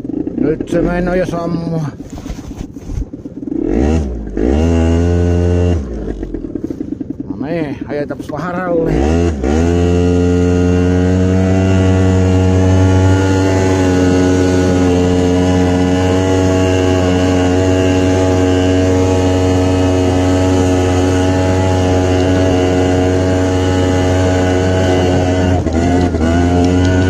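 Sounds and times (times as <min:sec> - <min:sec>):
two-stroke moped engine running: 0:00.0 - 0:27.0.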